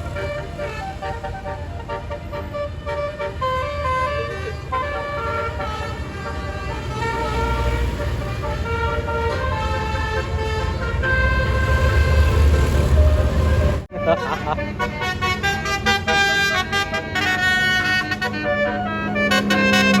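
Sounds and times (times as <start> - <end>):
bus horn playing fast tune: 0.0 - 20.0
low engine rumble: 0.0 - 20.0.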